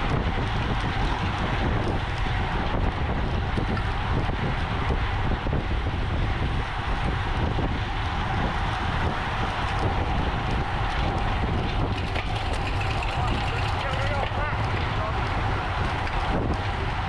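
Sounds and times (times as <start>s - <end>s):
tyres rumbling on road: 0.0s - 17.0s
wind buffeting microphone: 0.0s - 17.0s.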